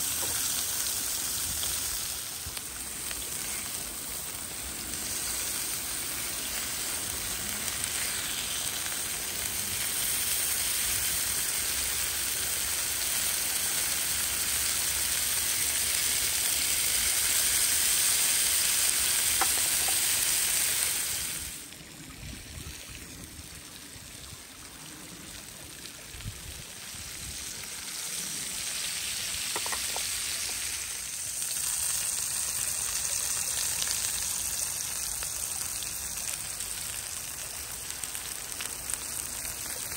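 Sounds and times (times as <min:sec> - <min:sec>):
beef sizzling on grill pan: 0:00.0 - 0:21.6, 0:27.0 - 0:39.9.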